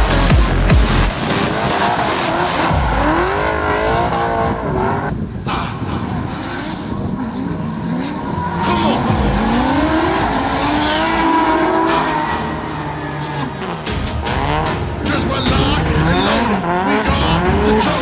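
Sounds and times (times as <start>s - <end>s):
car engines revving hard: 0.0s - 18.0s
tyres squealing and skidding: 1.2s - 18.0s.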